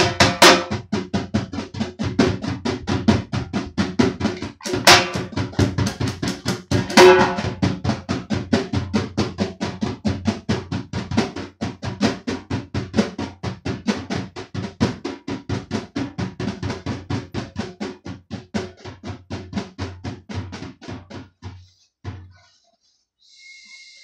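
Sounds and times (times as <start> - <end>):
hand drumming on drums: 0.0 - 22.4.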